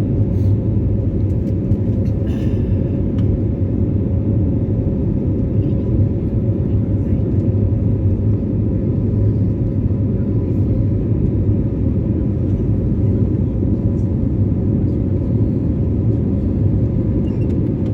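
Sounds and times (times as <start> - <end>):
airliner cabin engine rumble: 0.0 - 17.9.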